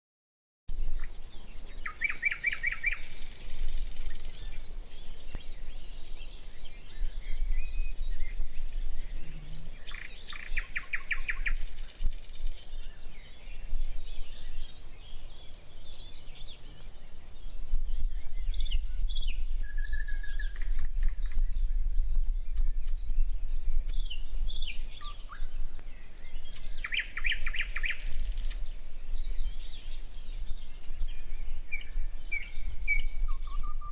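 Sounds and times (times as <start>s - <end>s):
birds singing and trilling: 0.7s - 33.9s.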